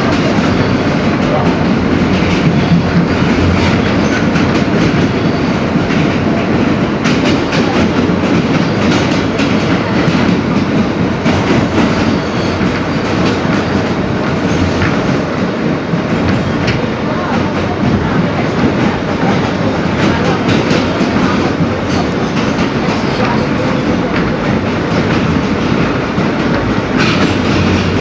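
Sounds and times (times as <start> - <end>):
subway wheels rumbling on track: 0.0 - 28.0.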